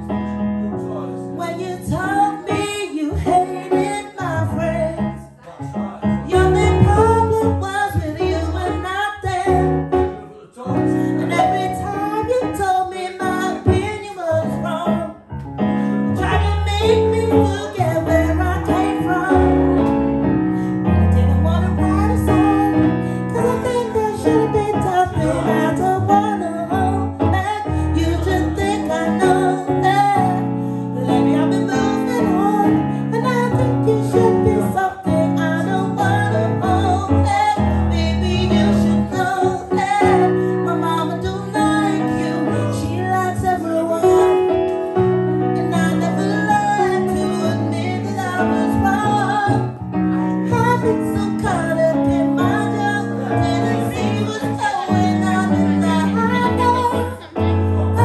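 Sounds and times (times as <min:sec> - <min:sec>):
instrumental accompaniment with bass: 0:00.0 - 0:58.0
woman singing: 0:01.4 - 0:05.6, 0:06.3 - 0:10.1, 0:10.8 - 0:15.3, 0:16.1 - 0:58.0.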